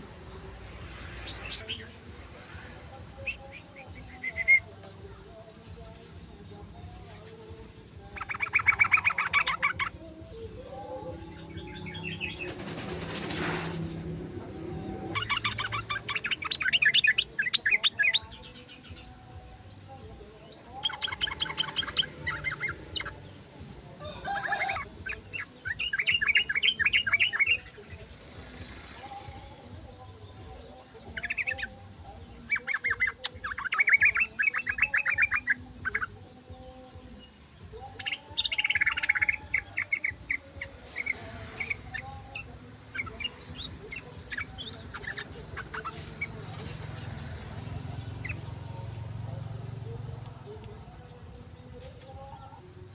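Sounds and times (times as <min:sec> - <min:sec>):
bulbul singing trilled phrases: 0:00.0 - 0:52.9.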